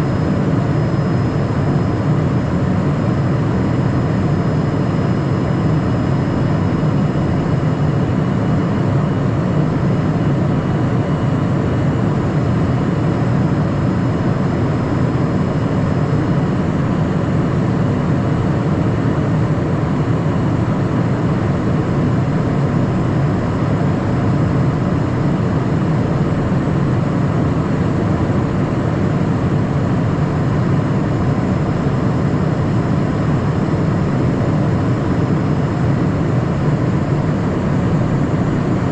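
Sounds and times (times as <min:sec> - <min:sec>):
jet engine and airflow rush: 0:00.0 - 0:38.9.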